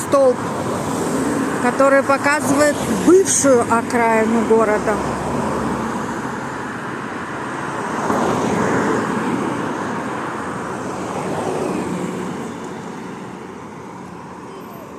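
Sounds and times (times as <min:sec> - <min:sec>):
road traffic noise: 0:00.0 - 0:14.9
vehicle passing: 0:00.0 - 0:14.9.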